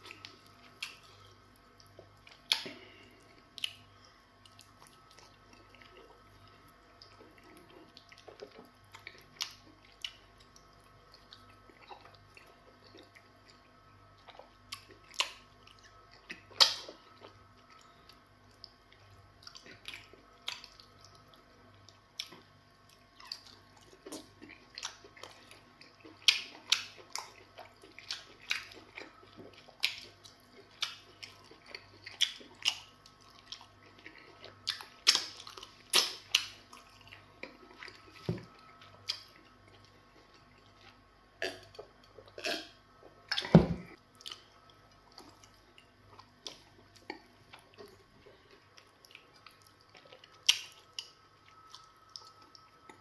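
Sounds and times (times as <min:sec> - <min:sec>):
wet mouth chewing sounds: 0:00.0 - 0:13.6, 0:14.2 - 0:43.5.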